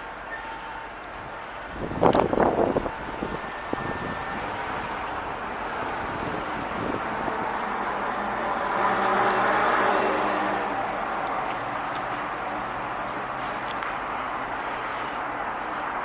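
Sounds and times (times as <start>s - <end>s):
road traffic noise: 0.0s - 16.0s
vehicle engine hum passing: 2.4s - 16.0s.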